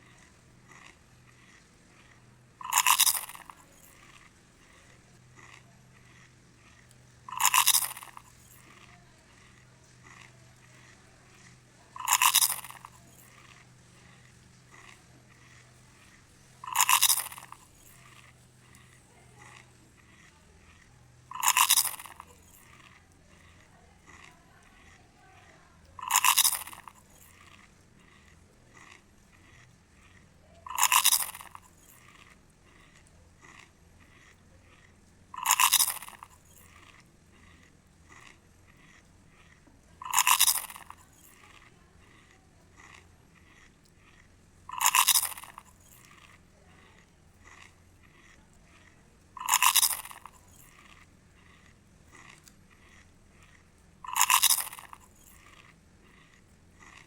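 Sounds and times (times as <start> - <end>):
faint chewing: 0.0 - 57.0.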